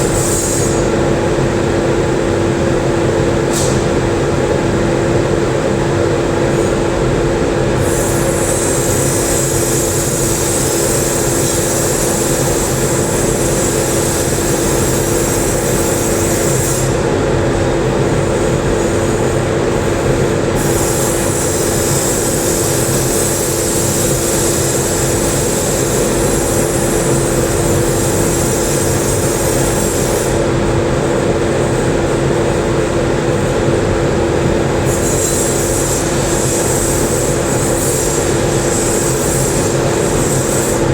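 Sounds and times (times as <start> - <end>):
loud steady hum: 0.0 - 40.9
welding arc hissing and buzzing: 0.0 - 40.9.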